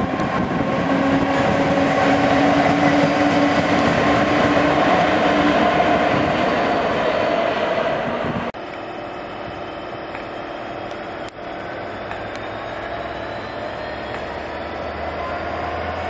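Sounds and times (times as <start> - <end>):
diesel locomotive engine humming: 0.0 - 16.0
freight train passing at speed: 0.0 - 16.0.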